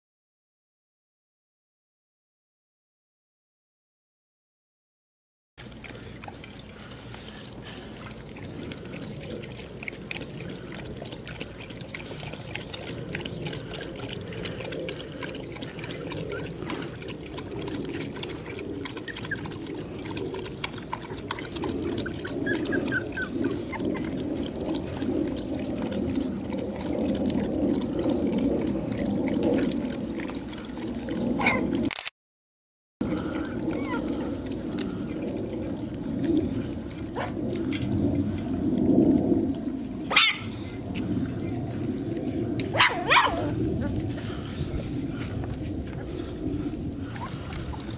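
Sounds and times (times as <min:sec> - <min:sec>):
dogs lapping from steel bowl: 0:05.6 - 0:31.9, 0:33.0 - 0:47.9.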